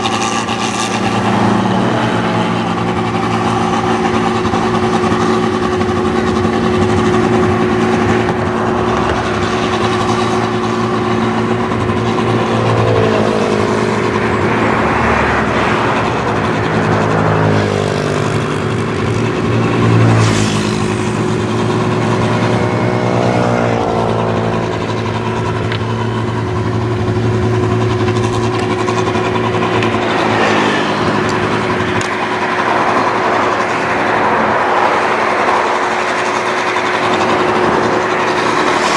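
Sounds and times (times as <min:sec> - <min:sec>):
combine harvester engine drone: 0:00.0 - 0:38.9
steady machine whine: 0:00.0 - 0:38.9.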